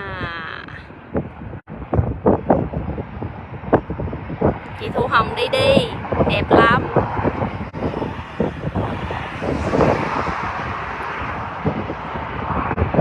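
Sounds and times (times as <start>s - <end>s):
steady outdoor rumble: 0.0s - 13.0s
wind buffeting microphone: 0.0s - 13.0s.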